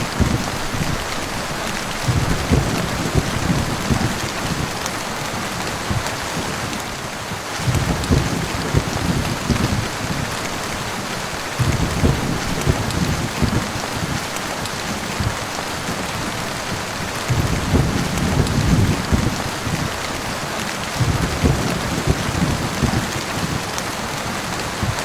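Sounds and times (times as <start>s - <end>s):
heavy rain falling: 0.0s - 25.0s
thunder rumbling: 0.0s - 25.0s.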